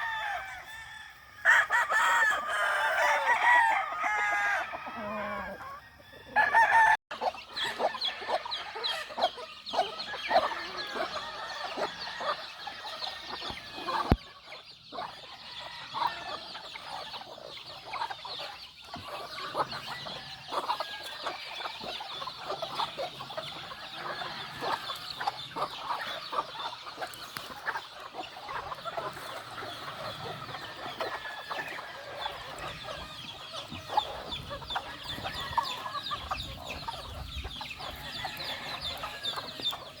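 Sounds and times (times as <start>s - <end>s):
roosters crowing: 0.0s - 14.3s, 14.9s - 40.0s
chickens clucking: 0.0s - 40.0s.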